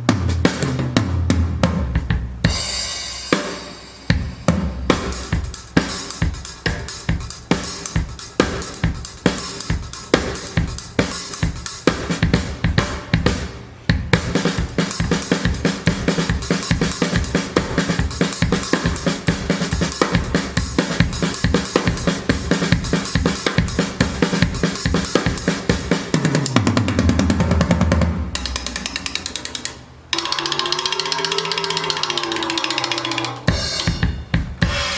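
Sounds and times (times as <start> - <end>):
drum kit playing fast pattern: 0.0 - 34.9.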